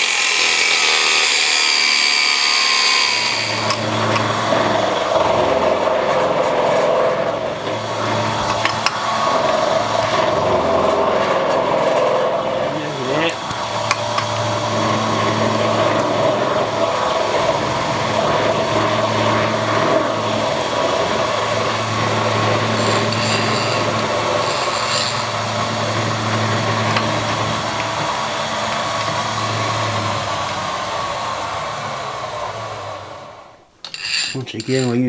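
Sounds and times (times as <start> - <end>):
metalworking machine humming and whirring: 0.0 - 35.0.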